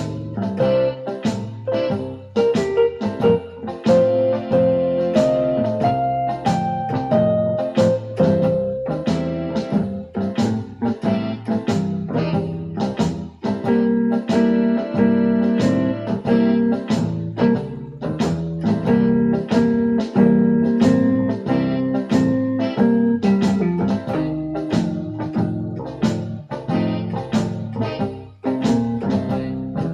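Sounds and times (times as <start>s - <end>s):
electronic keyboard playing blues: 0.0s - 29.9s.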